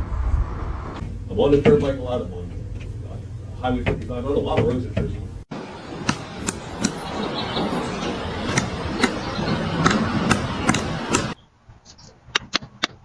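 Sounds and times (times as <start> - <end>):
steady background hiss: 0.0 - 11.7.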